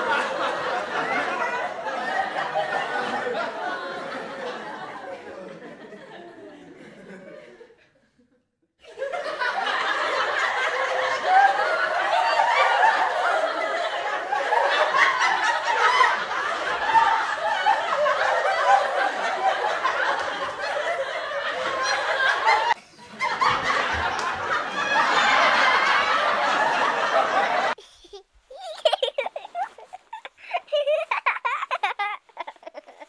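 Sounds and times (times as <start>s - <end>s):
crowd laughing: 0.0s - 33.0s.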